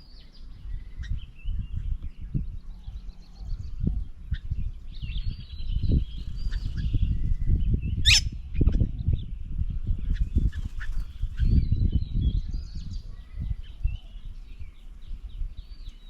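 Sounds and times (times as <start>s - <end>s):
birds chirping and calling: 0.0s - 16.0s
wind rumble on microphone: 0.0s - 16.0s.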